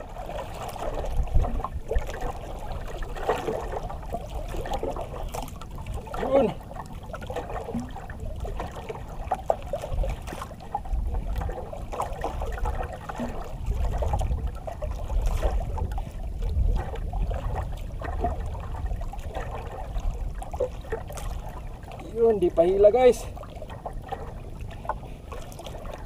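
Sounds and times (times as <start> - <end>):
water lapping against boat hull: 0.0 - 26.0
wind on microphone: 0.0 - 26.0.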